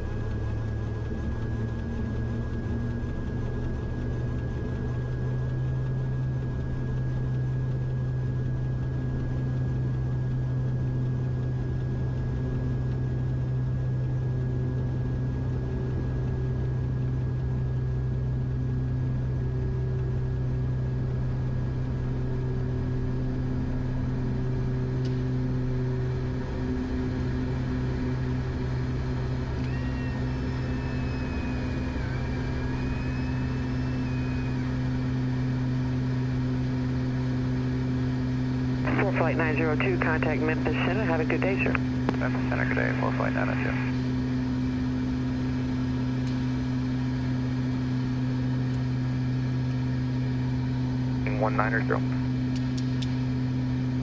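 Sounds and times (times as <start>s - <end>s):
deep propeller drone: 0.0s - 54.0s
high turbine whine: 0.0s - 54.0s.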